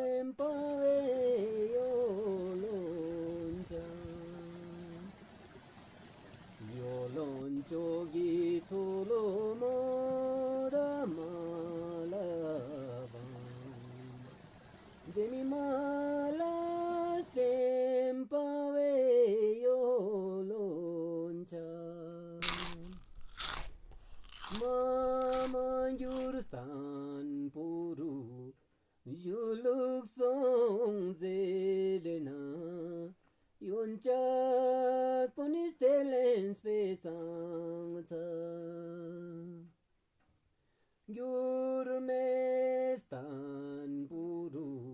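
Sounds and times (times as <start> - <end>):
person singing slow melody: 0.0 - 5.2, 6.6 - 23.0, 24.5 - 39.8, 41.1 - 44.9.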